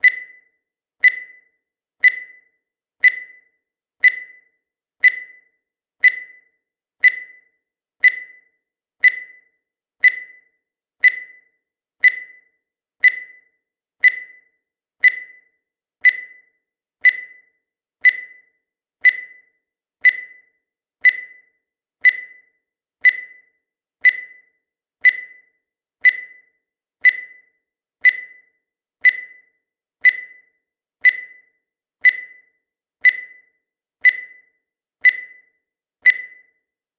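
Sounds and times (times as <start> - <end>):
high electronic timer beeps: 0.0 - 36.8.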